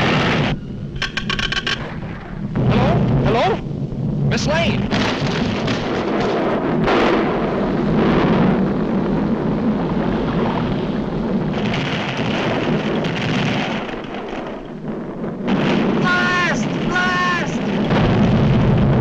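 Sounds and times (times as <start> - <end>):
cartoon volcano rumble and crash: 0.0 - 0.9, 1.8 - 19.0.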